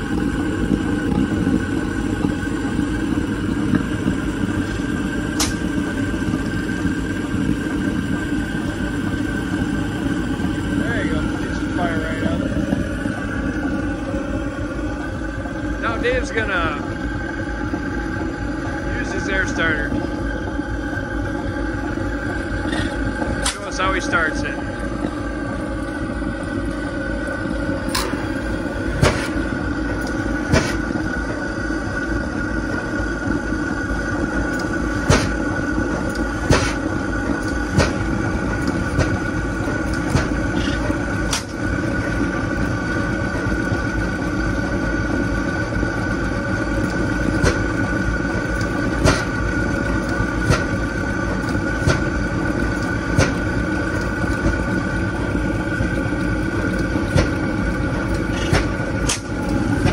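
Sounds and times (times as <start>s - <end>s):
engine sharp reports: 0.0s - 59.9s
steady mechanical din: 0.0s - 59.9s.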